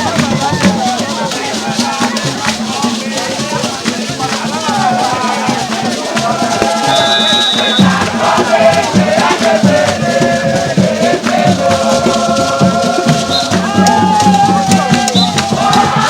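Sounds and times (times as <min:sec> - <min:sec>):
rattling percussion: 0:00.0 - 0:16.0
steady drumming: 0:00.0 - 0:16.0
voices singing together: 0:00.0 - 0:16.0.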